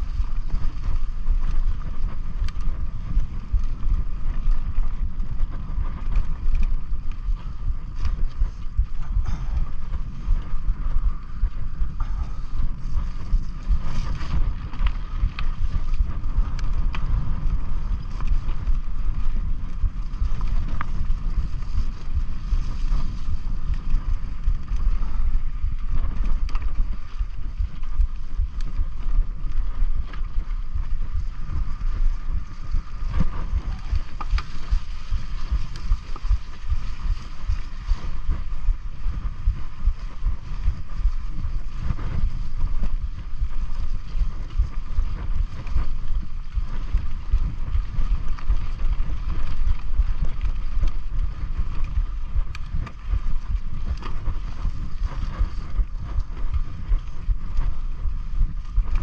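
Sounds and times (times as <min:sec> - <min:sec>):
bike clicks and rattles: 0:00.0 - 0:59.0
bike tyre noise on dirt: 0:00.0 - 0:59.0
steady high hum: 0:00.0 - 0:59.0
wind buffeting microphone: 0:00.0 - 0:59.0.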